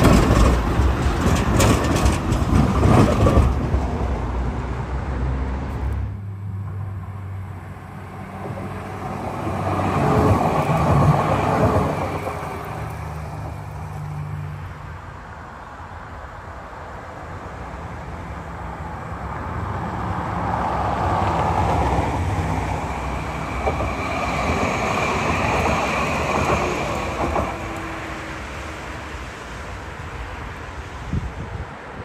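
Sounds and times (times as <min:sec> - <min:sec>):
tram wheels rumbling on rails: 0:00.0 - 0:15.0, 0:17.2 - 0:32.0.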